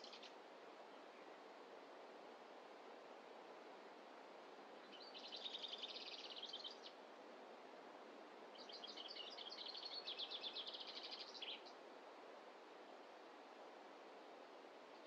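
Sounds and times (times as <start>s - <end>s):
faint forest ambience hiss: 0.0s - 15.0s.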